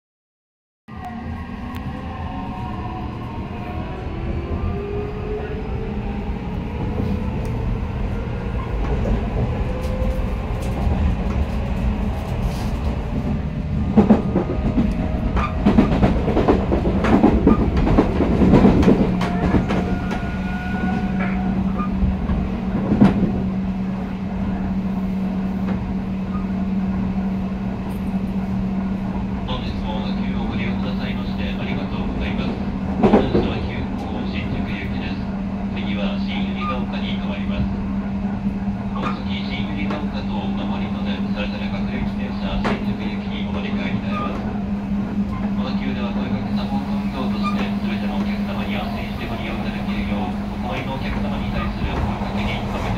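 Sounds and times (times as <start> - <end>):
low train hum: 0.9 - 52.9.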